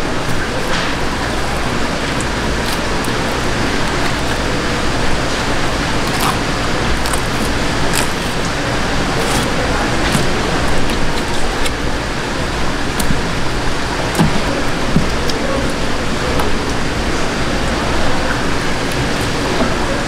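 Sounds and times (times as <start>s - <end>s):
fish market background noise: 0.0s - 20.0s.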